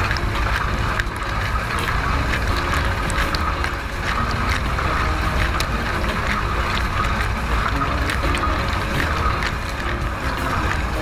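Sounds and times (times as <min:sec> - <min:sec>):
dishwasher water spraying: 0:00.0 - 0:11.0
sharp ticks: 0:00.0 - 0:11.0.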